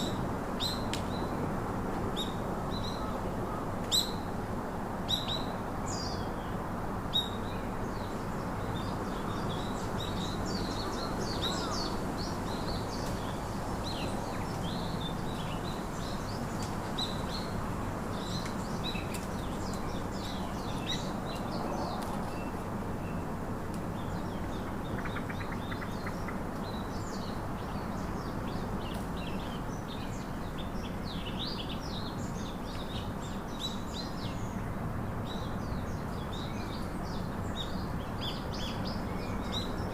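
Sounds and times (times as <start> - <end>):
low rushing background noise: 0.0 - 39.9
small birds chirping and trilling: 5.0 - 39.9.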